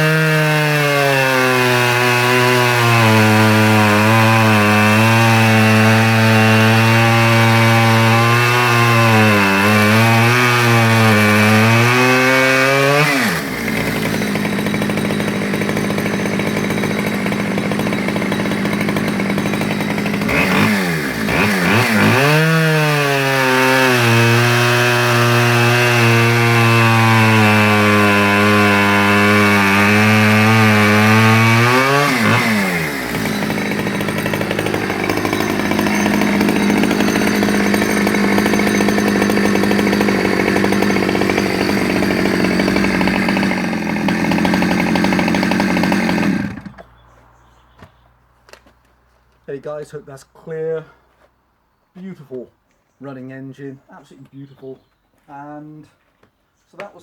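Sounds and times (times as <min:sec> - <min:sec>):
chainsaw cutting logs: 0:00.0 - 0:47.0.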